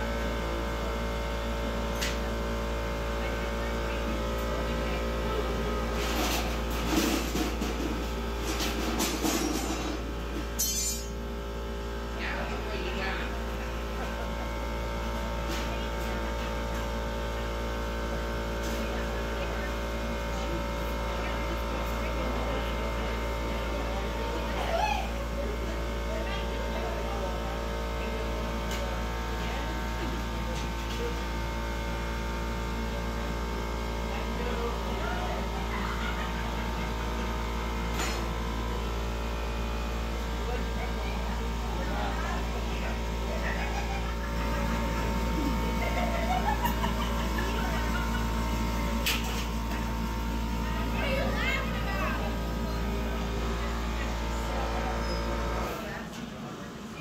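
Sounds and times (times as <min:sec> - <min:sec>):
faint background chatter: 0:00.0 - 0:57.0
furnace mechanical hum: 0:00.0 - 0:57.0.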